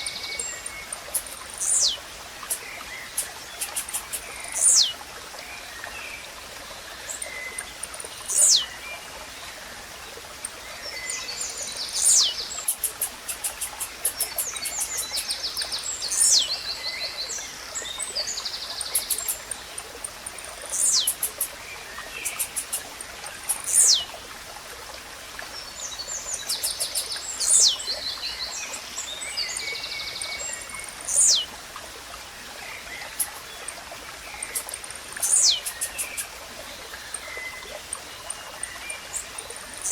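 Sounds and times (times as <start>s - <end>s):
small birds chirping: 0.0s - 5.0s, 7.0s - 8.8s, 11.1s - 17.2s, 17.8s - 24.1s, 25.9s - 31.6s, 32.8s - 39.9s
stream trickling: 0.0s - 39.9s.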